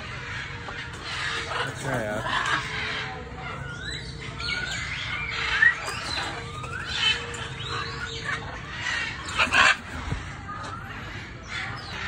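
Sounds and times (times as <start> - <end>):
birds chirping and whistling: 0.0 - 12.0.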